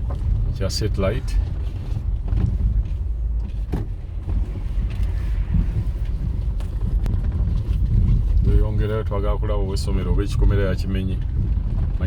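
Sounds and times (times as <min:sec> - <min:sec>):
vehicle driving rumble: 0:00.0 - 0:12.0.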